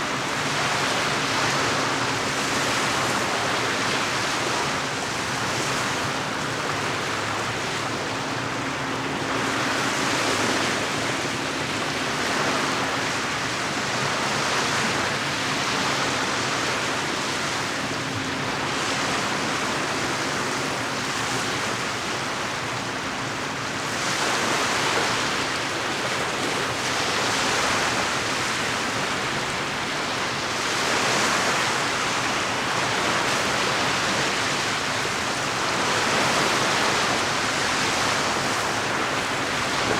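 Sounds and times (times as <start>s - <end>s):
lake waves washing against shore: 0.0s - 39.9s.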